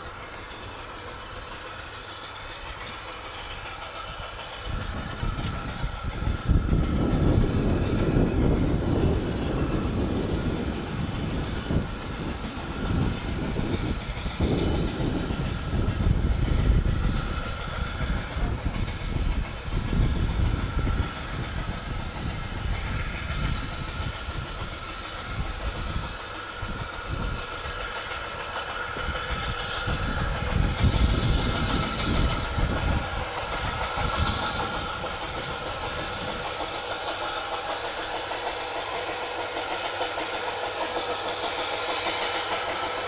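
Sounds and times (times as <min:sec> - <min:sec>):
steam train rumbling: 0:00.0 - 0:43.0.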